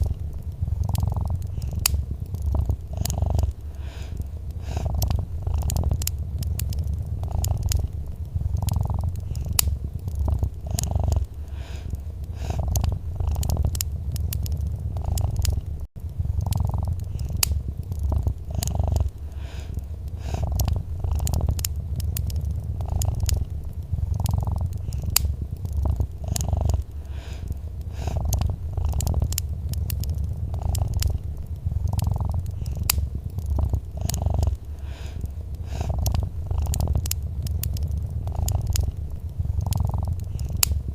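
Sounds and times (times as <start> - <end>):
cat purring: 0.0 - 40.9
wood fire crackling: 0.0 - 40.9.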